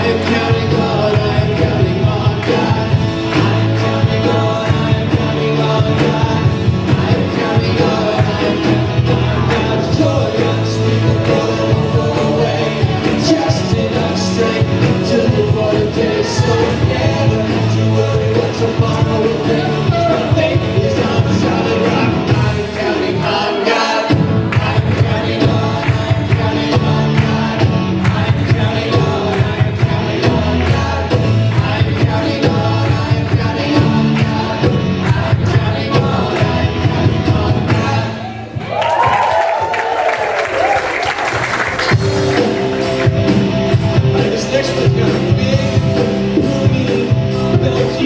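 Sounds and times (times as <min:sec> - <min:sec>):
rock band playing: 0:00.0 - 0:39.0, 0:40.6 - 0:48.0
voices singing along: 0:00.0 - 0:48.0.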